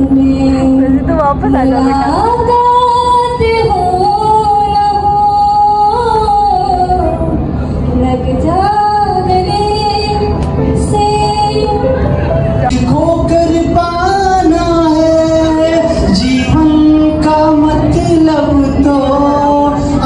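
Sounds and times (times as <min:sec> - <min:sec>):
woman singing into microphone: 0:00.0 - 0:20.0.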